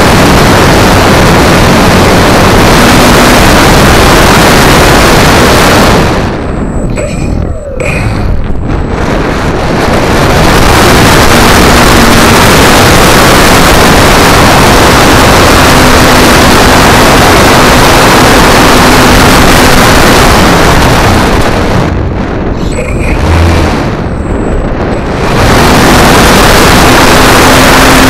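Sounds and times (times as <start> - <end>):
wind and propeller rushing: 0.0 - 28.0.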